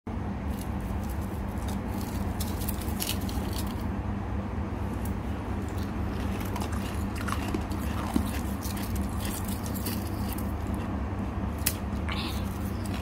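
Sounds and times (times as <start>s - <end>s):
steady low hum: 0.1s - 13.0s
frost crunching and crackling: 0.3s - 4.0s, 4.8s - 13.0s.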